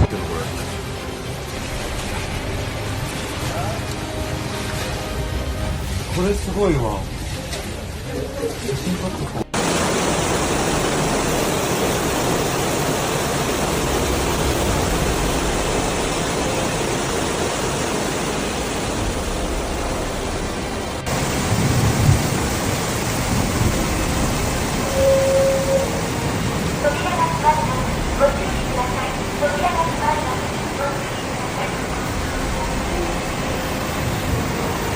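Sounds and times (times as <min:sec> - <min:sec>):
low rumbling: 0:00.0 - 0:34.9
torrential rain pouring: 0:00.0 - 0:34.9.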